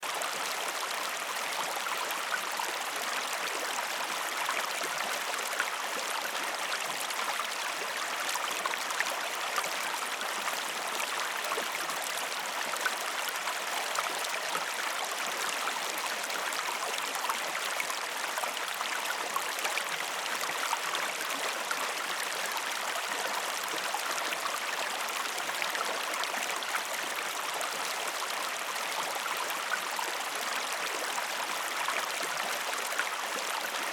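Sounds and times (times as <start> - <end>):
river water flowing: 0.0 - 33.9.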